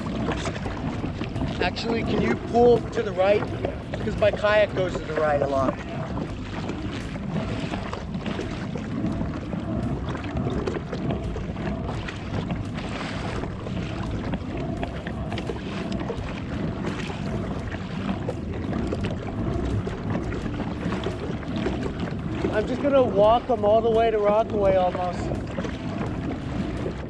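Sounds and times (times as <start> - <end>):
water lapping against kayak hull: 0.0 - 27.0
wind rumbling on microphone: 0.0 - 27.0.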